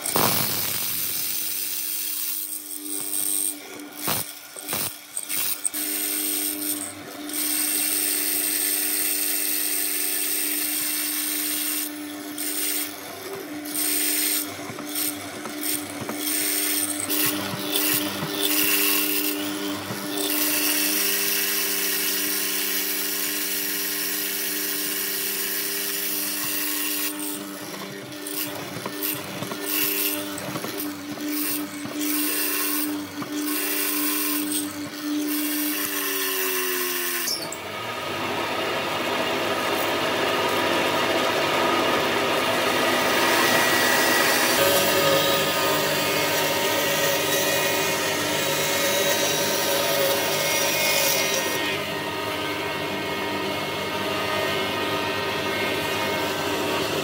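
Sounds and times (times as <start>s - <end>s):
electric power tool humming: 0.0s - 57.0s.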